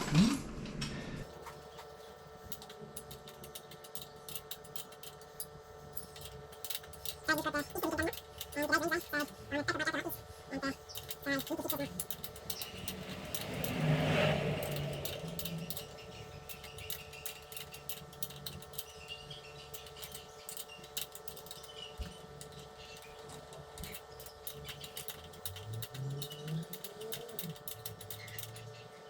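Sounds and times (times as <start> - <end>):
steady hum: 0.0 - 26.2
tools clicking and tapping: 1.4 - 28.8.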